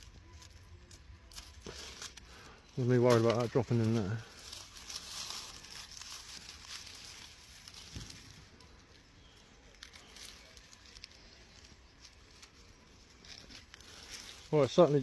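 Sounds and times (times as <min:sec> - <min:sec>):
dried garlic crackling and rustling: 0:00.0 - 0:15.0.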